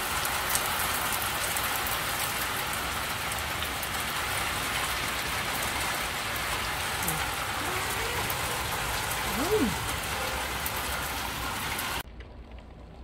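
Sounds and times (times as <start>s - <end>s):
heavy rain pouring: 0.0s - 13.0s
raindrops tapping: 0.0s - 13.0s.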